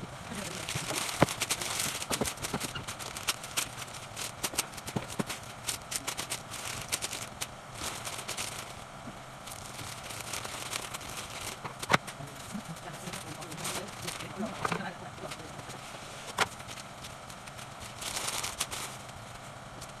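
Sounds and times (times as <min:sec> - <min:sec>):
wrapping paper rustling and crackling: 0:00.0 - 0:20.0.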